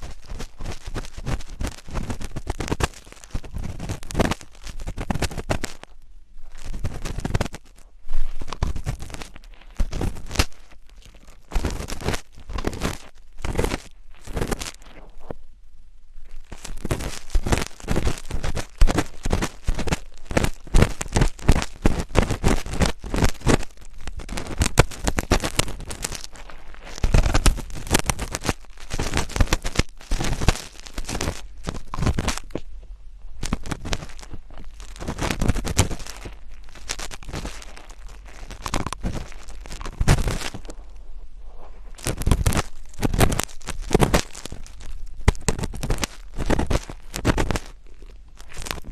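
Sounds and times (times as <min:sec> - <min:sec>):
crackly scratching and crinkling: 0:00.0 - 0:48.9.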